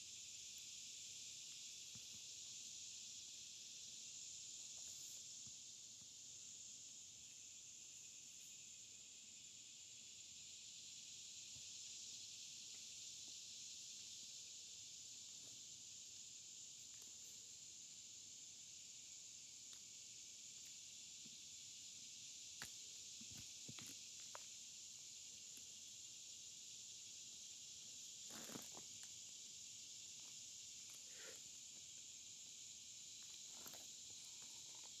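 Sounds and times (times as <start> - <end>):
faint high-pitched hiss: 0.0 - 35.0.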